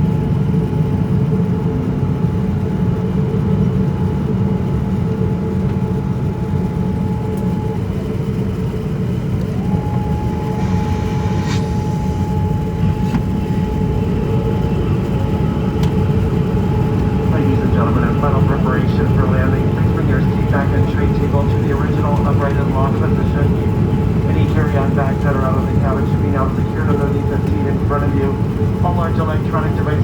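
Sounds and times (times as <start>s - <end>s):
airliner cabin roar: 0.0s - 30.0s
thin steady whine: 5.4s - 30.0s.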